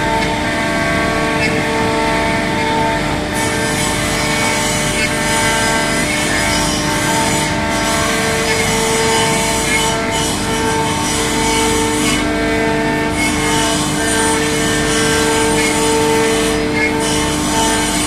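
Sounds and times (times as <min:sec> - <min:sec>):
router bit cutting wood: 0:00.0 - 0:18.0
router spindle whine: 0:00.0 - 0:18.0.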